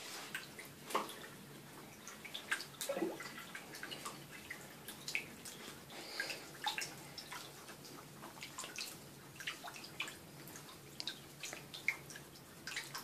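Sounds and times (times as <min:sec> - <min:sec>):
small water splashes and drips: 0:00.0 - 0:13.0.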